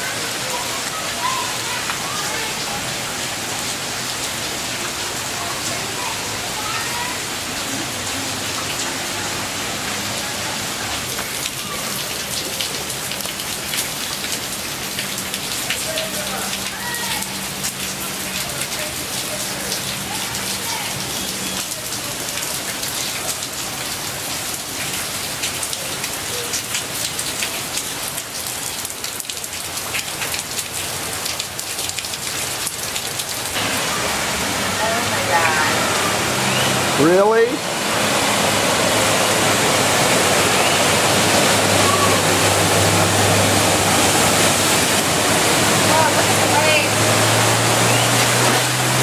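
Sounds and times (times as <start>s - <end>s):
heavy rain on standing water: 0.0s - 49.0s.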